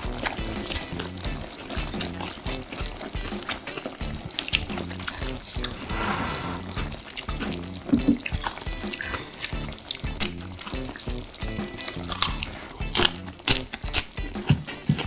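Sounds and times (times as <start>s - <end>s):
stirring wet saucy meat: 0.0s - 14.9s
soft background music: 0.0s - 15.0s.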